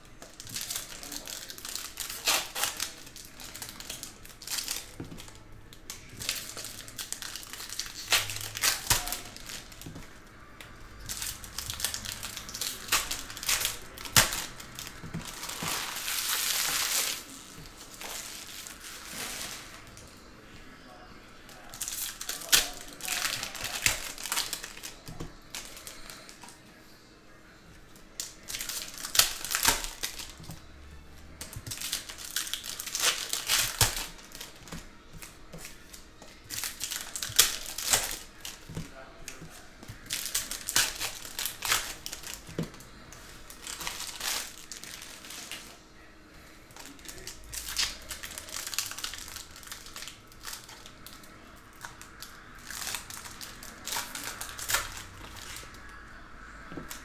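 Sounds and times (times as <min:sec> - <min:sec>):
card pack wrappers crinkling and tearing: 0:00.0 - 0:20.2, 0:21.5 - 0:26.6, 0:28.0 - 0:30.7, 0:31.3 - 0:57.0.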